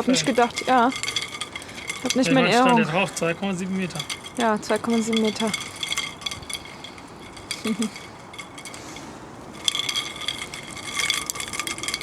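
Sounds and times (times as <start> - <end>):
cable ties ratcheting: 0.0 - 2.3, 2.9 - 12.0.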